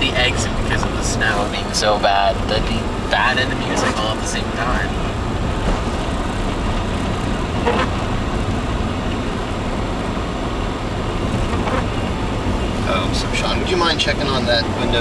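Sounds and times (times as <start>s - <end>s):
car road and engine noise: 0.0s - 15.0s
tyres on snowy road: 0.0s - 15.0s.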